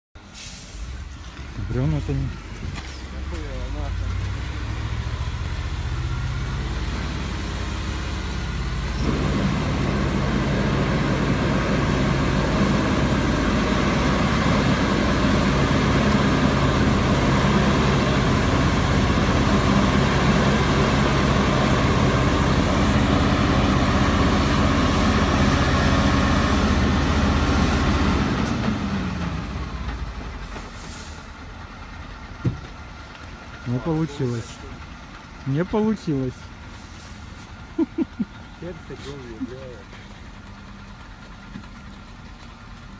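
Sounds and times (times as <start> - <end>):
truck diesel engine working hard: 0.2 - 42.9.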